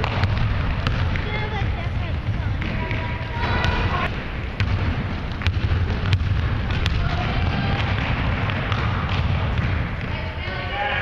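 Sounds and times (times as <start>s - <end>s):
basketball bouncing on hardwood: 0.0s - 3.9s, 4.6s - 10.1s
low rumble of gym noise: 0.0s - 11.0s.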